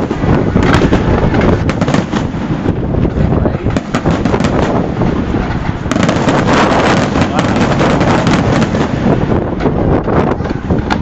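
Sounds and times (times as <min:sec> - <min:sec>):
fireworks bangs and crackles: 0:00.0 - 0:11.0
wind noise on microphone: 0:00.0 - 0:11.0.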